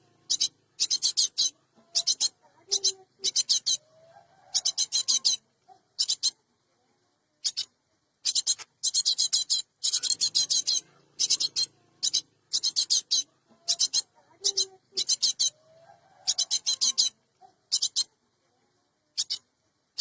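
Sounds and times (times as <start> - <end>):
bird chattering calls: 0.0 - 5.4, 6.0 - 6.4, 7.4 - 18.1, 19.2 - 19.4.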